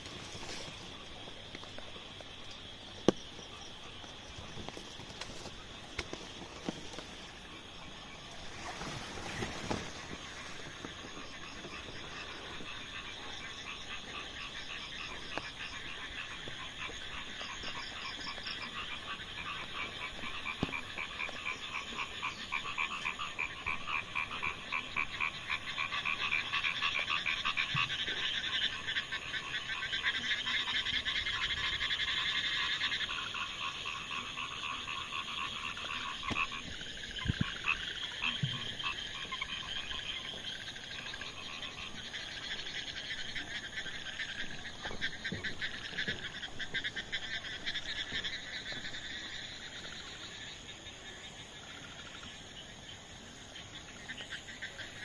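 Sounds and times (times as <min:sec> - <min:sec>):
frogs calling in pulsed trills: 0:00.0 - 0:55.0.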